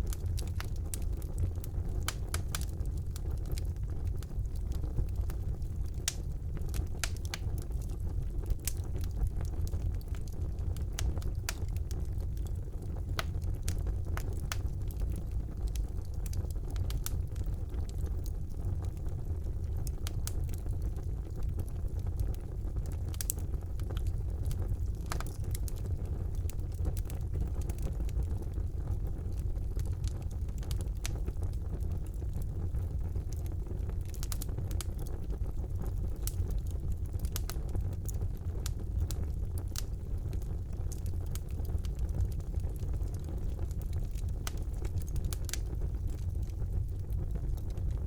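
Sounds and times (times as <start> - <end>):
fire crackling and popping: 0.0 - 48.0
fire flames roaring: 0.0 - 48.0.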